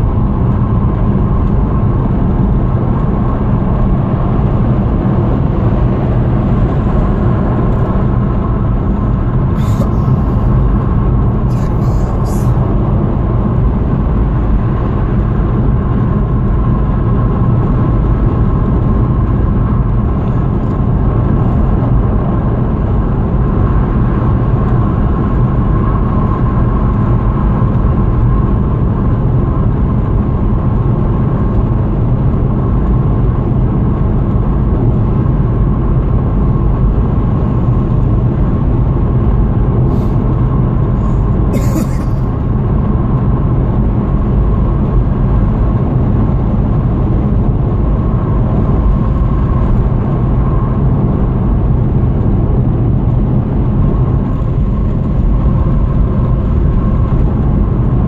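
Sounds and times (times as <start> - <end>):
car cabin road noise: 0.0 - 58.0.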